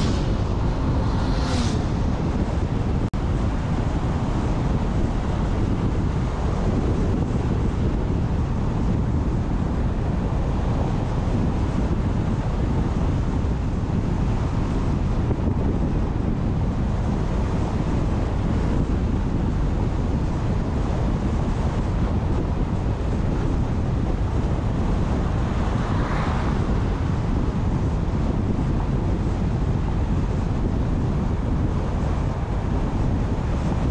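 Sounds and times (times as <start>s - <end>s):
car tyre noise at speed: 0.0s - 33.9s
wind rushing over microphone: 0.0s - 33.9s.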